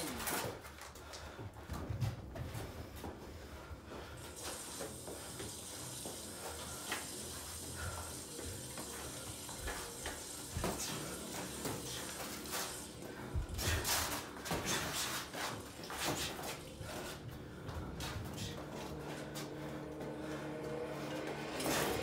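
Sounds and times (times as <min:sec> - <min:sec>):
shuffling footwork: 0:00.0 - 0:22.0.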